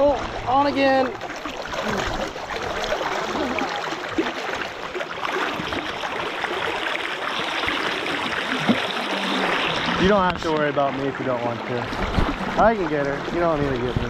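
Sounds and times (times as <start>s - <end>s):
river current rushing: 0.0s - 13.7s.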